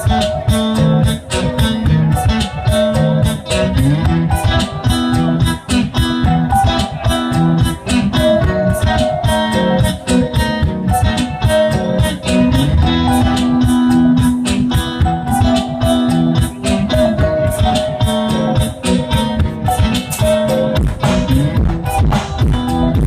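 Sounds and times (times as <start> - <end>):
rock band over loudspeakers: 0.0 - 23.0.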